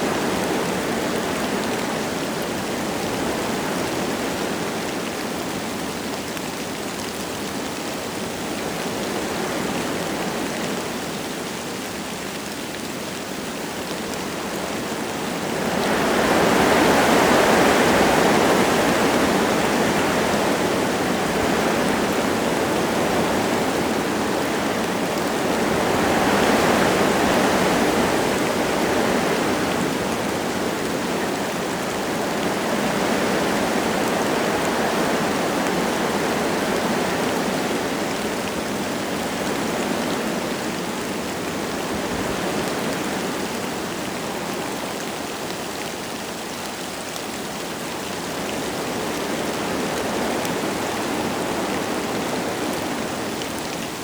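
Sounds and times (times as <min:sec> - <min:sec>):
light rain: 0:00.0 - 0:54.0
wind gusting through trees: 0:00.0 - 0:54.0.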